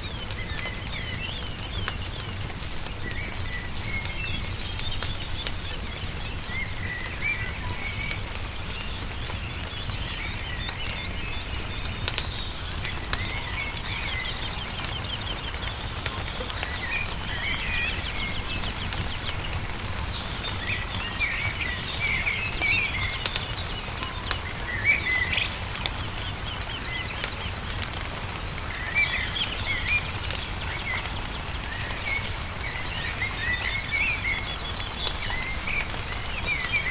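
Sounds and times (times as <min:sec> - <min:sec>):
songbirds chirping and trilling: 0:00.0 - 0:36.9
wood fire crackling: 0:00.0 - 0:36.9.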